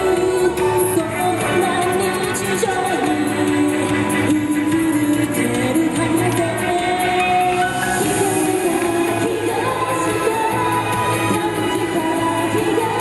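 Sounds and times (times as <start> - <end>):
woman singing into microphone: 0.0 - 13.0.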